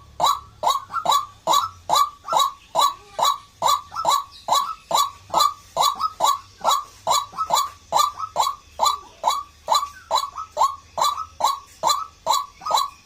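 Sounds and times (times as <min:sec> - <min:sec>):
waterhen calling harsh notes: 0:00.0 - 0:13.0.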